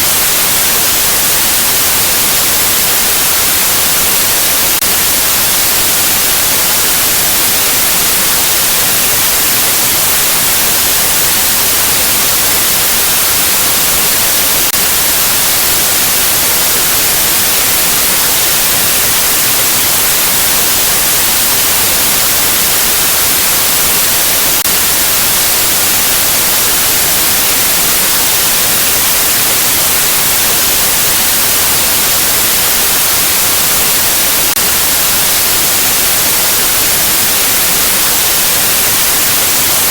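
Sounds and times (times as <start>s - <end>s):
white noise static: 0.0s - 39.9s.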